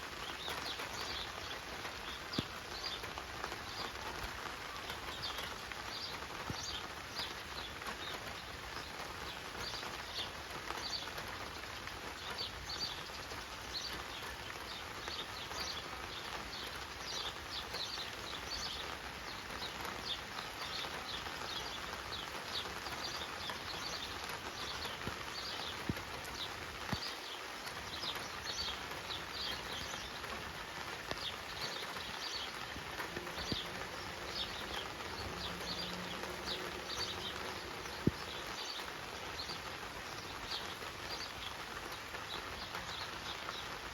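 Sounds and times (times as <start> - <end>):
small birds chirping: 0.0 - 43.9
steady outdoor hiss: 0.0 - 43.9.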